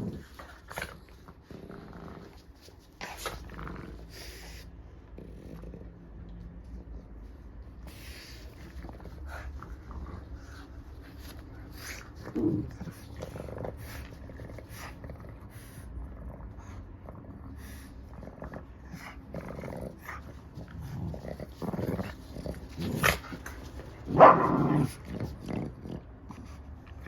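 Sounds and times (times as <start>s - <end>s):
dog breathing and growling: 0.0s - 27.0s.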